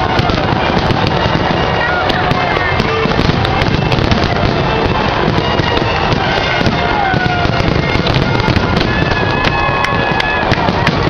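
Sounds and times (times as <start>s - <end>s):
fireworks bangs and crackling: 0.0s - 11.0s
fireworks whistling: 0.0s - 11.0s.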